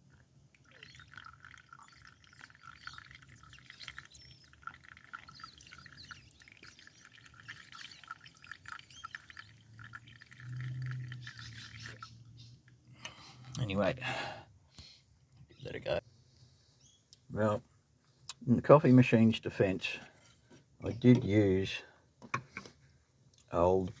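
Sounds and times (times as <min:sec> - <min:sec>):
faint birdsong chirps: 0:00.4 - 0:18.2, 0:19.6 - 0:22.1.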